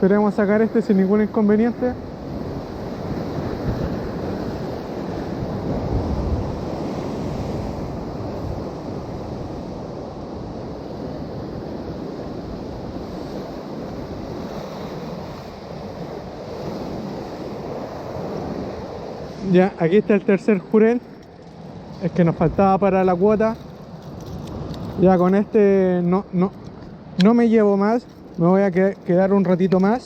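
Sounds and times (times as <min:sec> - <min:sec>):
sea surf washing: 0:00.0 - 0:30.0
wind blowing on microphone: 0:00.0 - 0:30.0.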